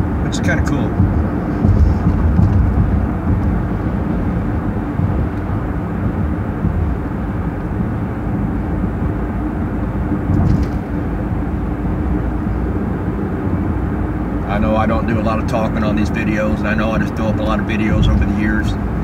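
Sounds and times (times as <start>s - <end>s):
car road and engine noise: 0.0s - 19.0s
faint steady hum: 0.0s - 19.0s.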